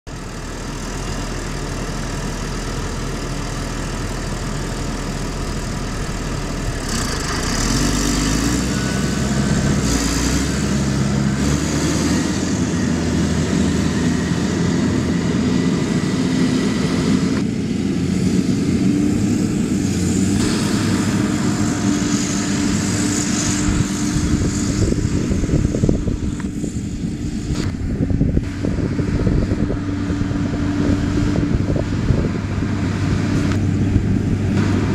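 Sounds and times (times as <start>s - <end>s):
diesel engine idling and revving: 0.1s - 34.9s.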